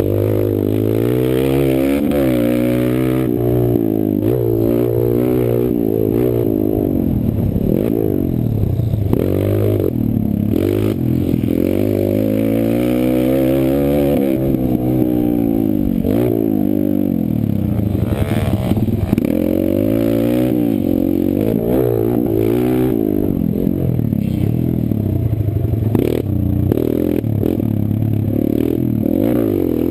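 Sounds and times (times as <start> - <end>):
motorbike engine revving: 0.0 - 29.9.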